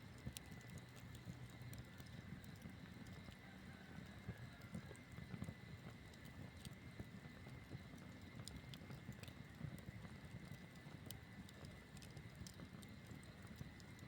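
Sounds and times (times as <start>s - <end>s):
crackles and pops of burning wood: 0.0s - 14.0s
low fire rumble: 0.0s - 14.0s.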